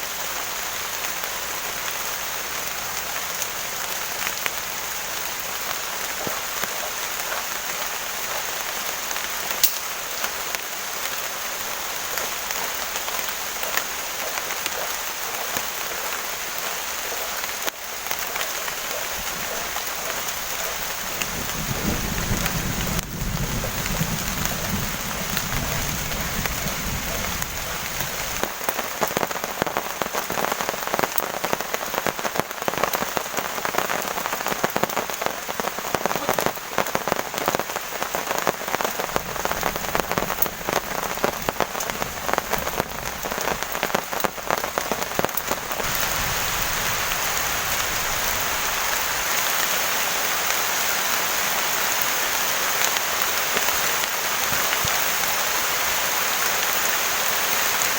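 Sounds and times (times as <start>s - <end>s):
heavy rain falling: 0.0s - 57.9s
loud raindrops hitting close by: 0.0s - 57.9s.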